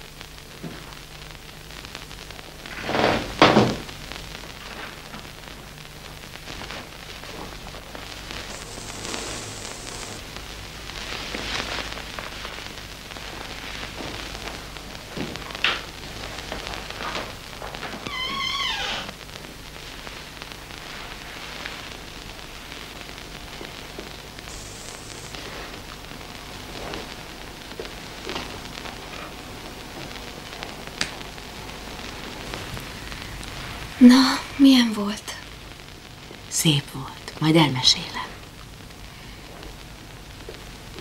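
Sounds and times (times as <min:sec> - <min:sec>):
rain pattering on window: 0:00.0 - 0:41.0
steady hiss: 0:00.0 - 0:41.0.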